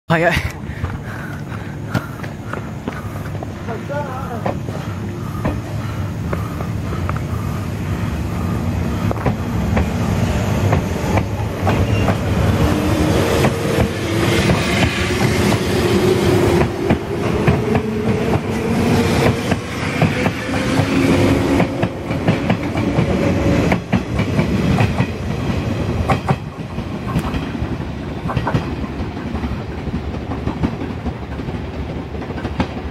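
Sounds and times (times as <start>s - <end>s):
train wheels clattering over joints: 0.8s - 7.8s, 10.6s - 32.9s.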